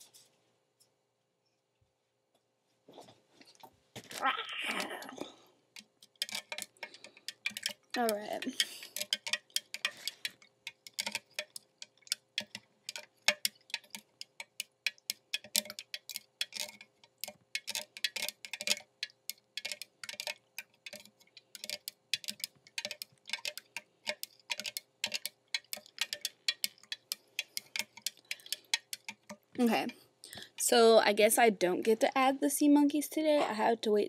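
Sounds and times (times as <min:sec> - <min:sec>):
butter knife stirring water: 0:04.7 - 0:32.2.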